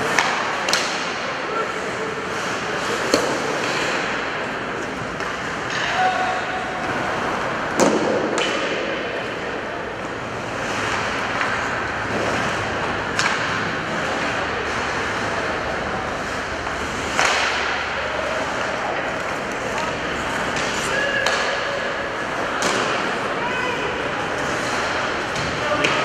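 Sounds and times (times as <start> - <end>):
hockey stick hitting puck: 0.0 - 1.4, 2.3 - 23.4, 24.2 - 26.0
skates and arena noise: 0.0 - 26.0.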